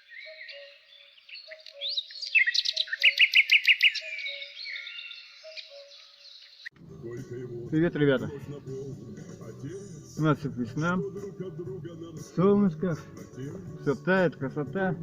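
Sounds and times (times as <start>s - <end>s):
songbirds singing and chirping: 0.0s - 15.0s.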